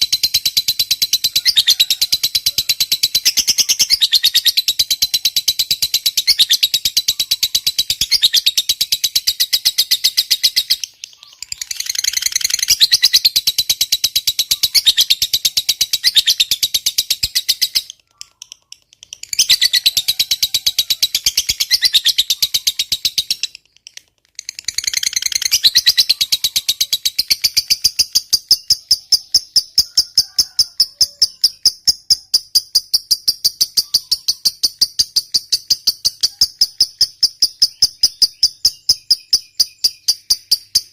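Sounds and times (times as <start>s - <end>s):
lovebird shrill chattering trill: 0.0s - 40.9s.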